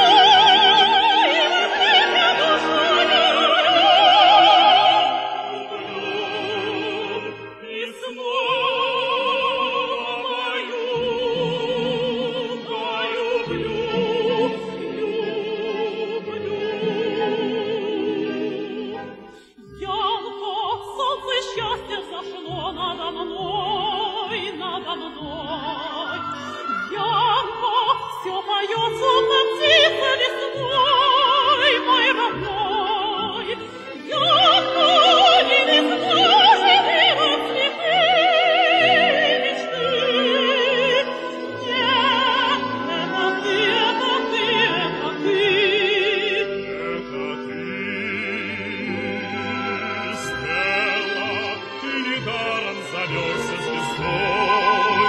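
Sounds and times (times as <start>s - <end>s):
orchestra playing: 0.0s - 55.0s
soprano singing with vibrato: 0.0s - 55.0s.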